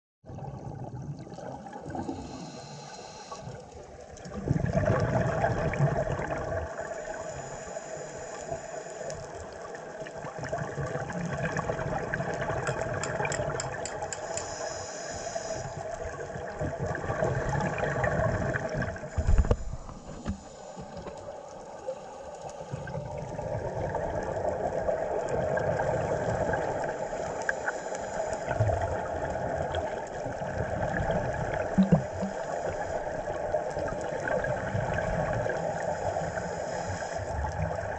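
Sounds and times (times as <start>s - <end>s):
regulator bubbles gurgling underwater: 0.2s - 37.9s.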